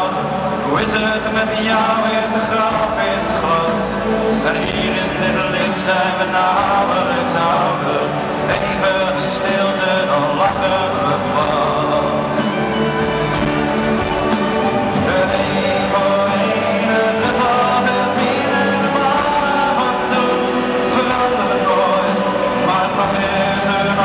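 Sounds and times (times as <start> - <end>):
live pop band playing: 0.0 - 24.0
person singing: 0.0 - 24.0.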